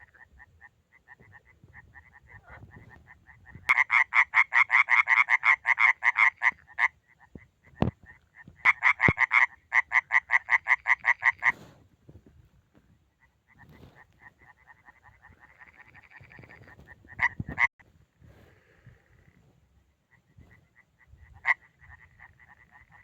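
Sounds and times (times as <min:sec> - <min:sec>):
frog croaking in pulsed trains: 0:00.0 - 0:11.5, 0:13.1 - 0:17.8, 0:18.9 - 0:23.0.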